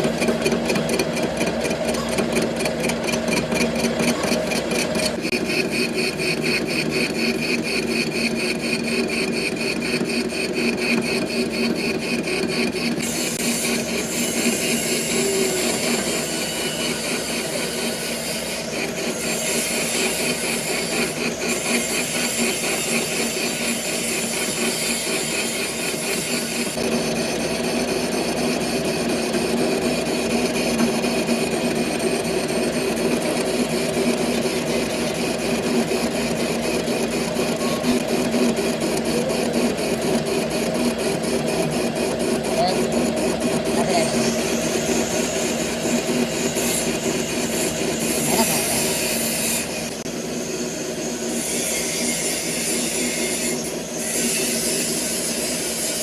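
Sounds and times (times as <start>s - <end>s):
metalworking machinery running: 0.0s - 56.0s.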